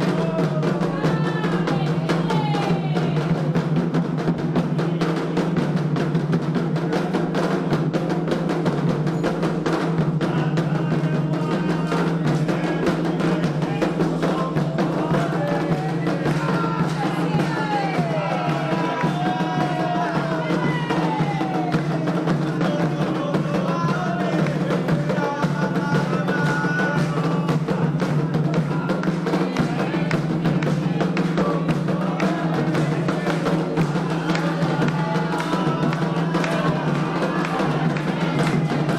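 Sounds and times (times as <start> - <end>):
hand drums beating: 0.0 - 38.9
voices singing: 0.0 - 38.9.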